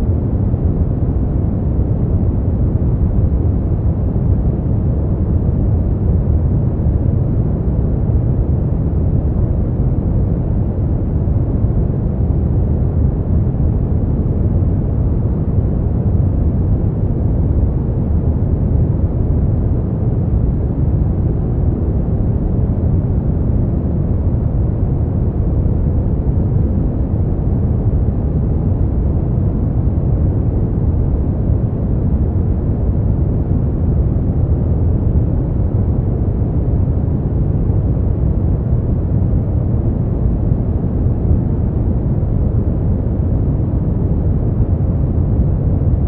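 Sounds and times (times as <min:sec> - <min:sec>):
dark muffled noise hiss: 0:00.0 - 0:46.0.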